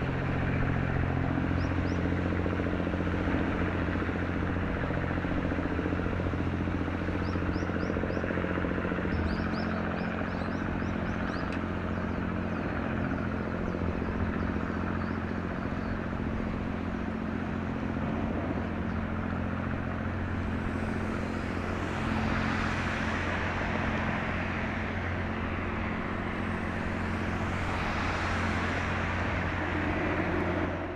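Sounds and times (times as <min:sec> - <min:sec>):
ship engine drone: 0:00.0 - 0:30.9.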